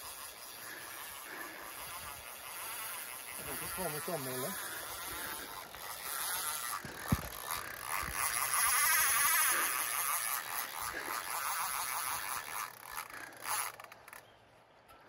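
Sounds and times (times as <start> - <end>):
fishing reel drag buzzing: 0.0 - 14.3.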